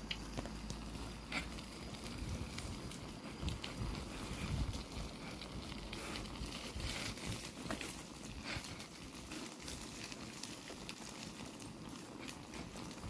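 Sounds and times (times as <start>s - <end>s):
bicycle tyres on wet road: 0.0s - 13.0s
crackles and clicks: 0.0s - 13.0s.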